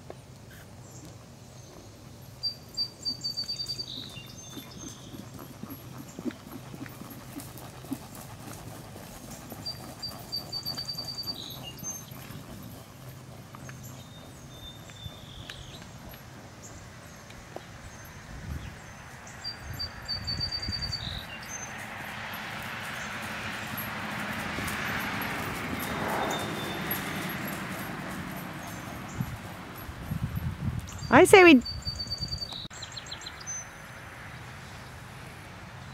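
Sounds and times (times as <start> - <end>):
songbird singing: 0.0 - 23.9, 25.5 - 35.0
faint outdoor ambience: 0.0 - 35.9.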